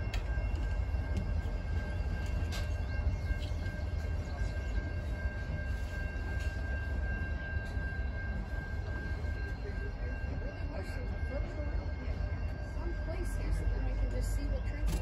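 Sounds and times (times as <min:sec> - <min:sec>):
train boxcars rumbling: 0:00.0 - 0:15.0.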